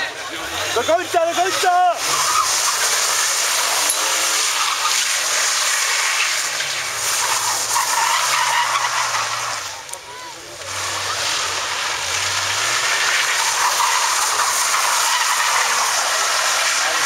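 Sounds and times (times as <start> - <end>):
car engine revving: 0.0 - 17.0
tyres skidding and squealing: 0.0 - 17.0.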